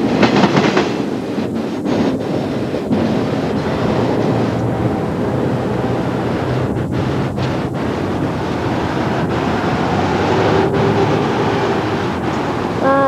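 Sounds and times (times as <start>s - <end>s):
rumbling wind noise: 0.0s - 13.0s
road traffic: 1.0s - 13.0s.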